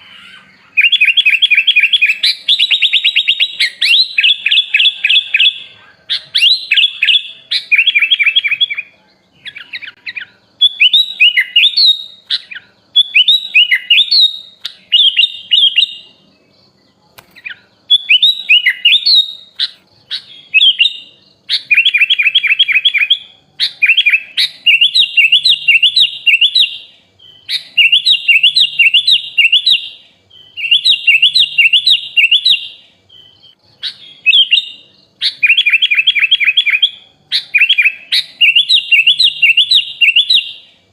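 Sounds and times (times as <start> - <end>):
bird chattering chirps: 0.0 - 40.7.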